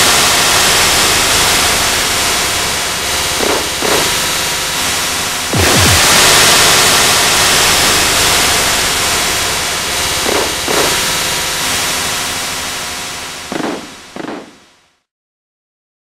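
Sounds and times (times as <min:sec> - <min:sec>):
loud static hiss: 0:00.0 - 0:14.8.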